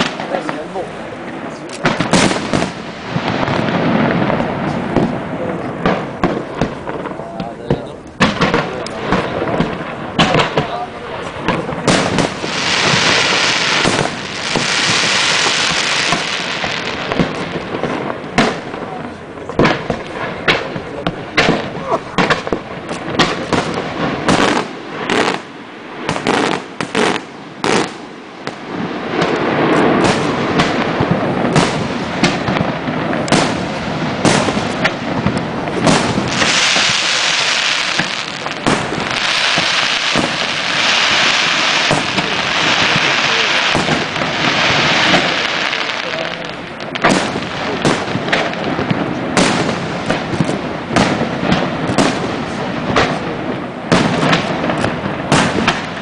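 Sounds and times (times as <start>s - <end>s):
firework bangs: 0.0s - 56.0s
fireworks hissing and crackling: 0.0s - 56.0s.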